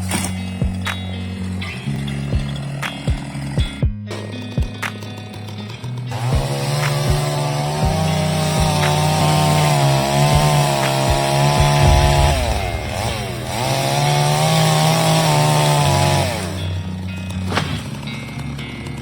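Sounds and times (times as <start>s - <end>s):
chainsaw at full throttle: 0.0s - 19.0s
music: 0.0s - 19.0s.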